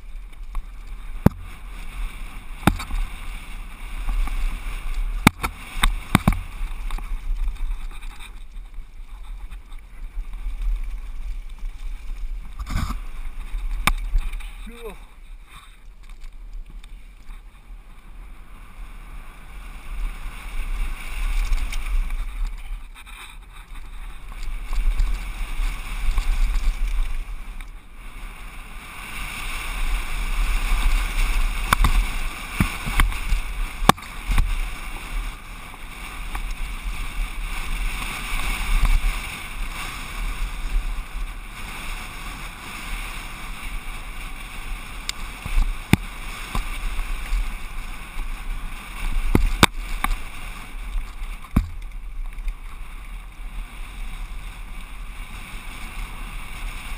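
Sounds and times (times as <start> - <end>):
bike rattling over bumps: 0.0 - 56.9
wind rumbling on camera: 0.0 - 56.9.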